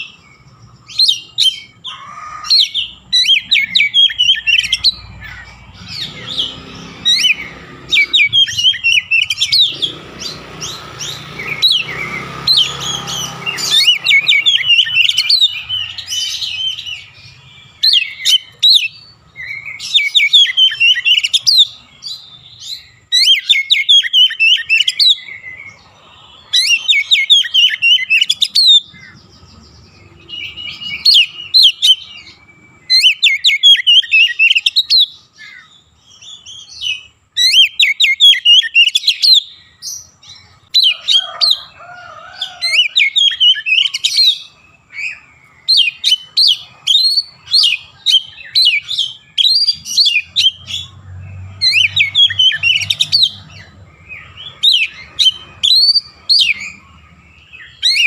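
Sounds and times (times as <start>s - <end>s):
bird singing rapid high notes: 0.0s - 41.7s, 42.7s - 58.0s
lower warbling bird call: 0.8s - 58.0s.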